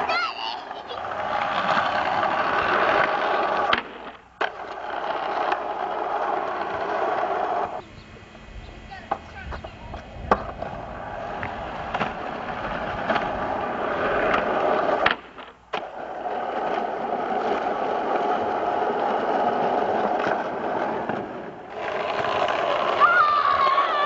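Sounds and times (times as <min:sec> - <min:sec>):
small wheels rolling on asphalt: 0:00.0 - 0:24.0.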